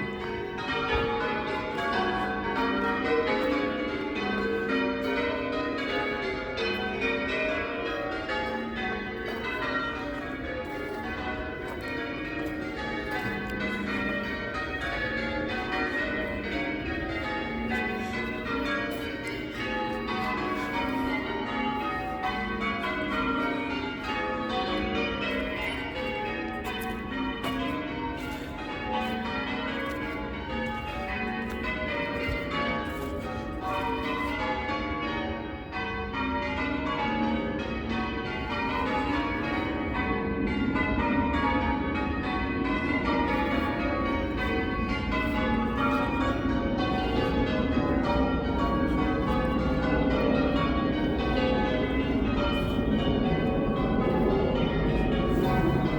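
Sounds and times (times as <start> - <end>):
church bells change ringing: 0.0 - 55.9.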